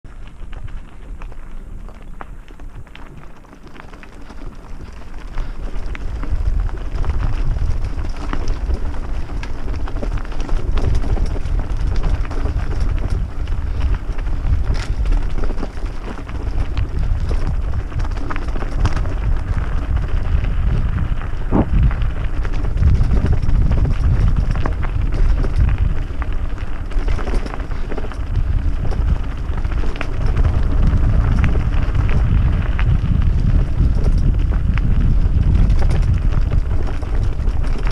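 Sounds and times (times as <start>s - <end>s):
wind rumble on microphone: 0.0s - 37.9s
tyres crunching on gravel: 0.1s - 37.9s
bike knocks and rattles: 0.6s - 37.9s.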